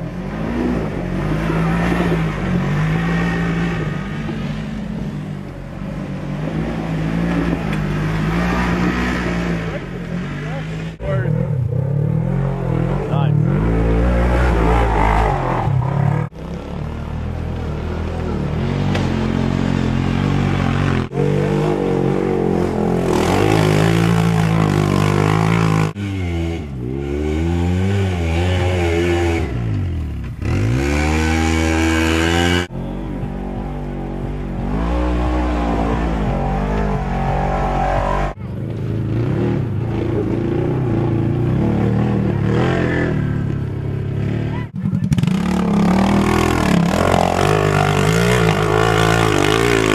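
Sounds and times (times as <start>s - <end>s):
off-road vehicle engines revving: 0.0s - 49.9s.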